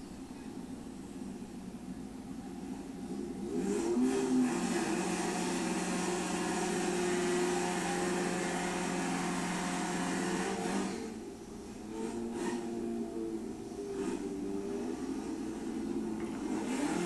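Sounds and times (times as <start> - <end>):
car engine at high revs: 3.0 - 17.0.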